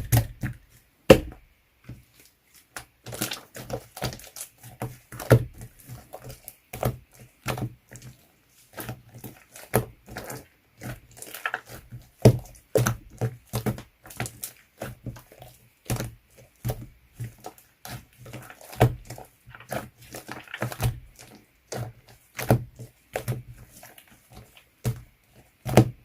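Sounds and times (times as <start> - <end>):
slime being squished: 0.0 - 1.4, 2.0 - 26.0.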